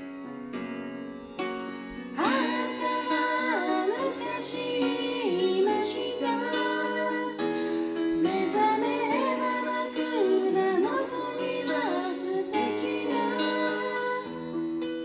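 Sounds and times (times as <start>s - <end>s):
soft piano backing: 0.0s - 15.0s
women singing pop ballad: 2.1s - 15.0s.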